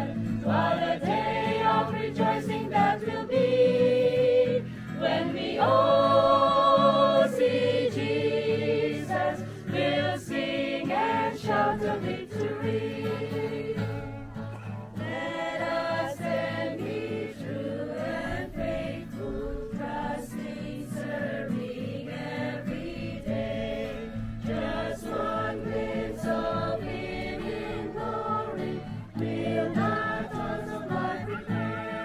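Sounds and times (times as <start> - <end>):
group singing: 0.0 - 32.0.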